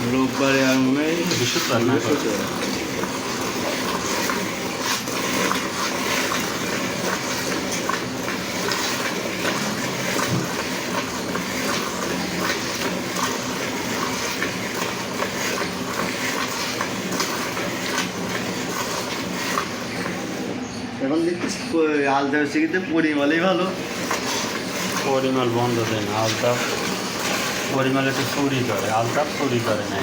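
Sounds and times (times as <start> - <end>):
milk squirting into a pail: 0.0 - 20.5, 23.7 - 30.0.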